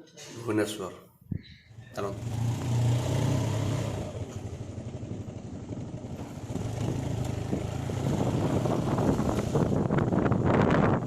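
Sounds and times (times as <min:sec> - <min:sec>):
motorcycle engine running: 0:01.7 - 0:11.0.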